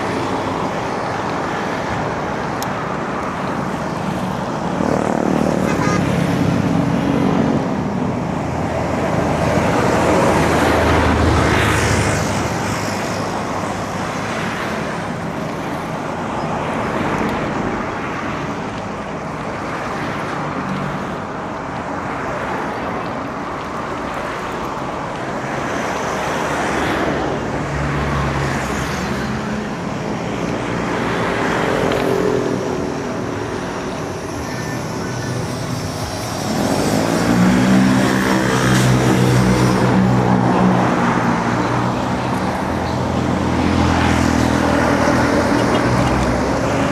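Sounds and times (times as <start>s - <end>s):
motor vehicles passing: 0.0s - 46.9s
road noise: 0.0s - 46.9s.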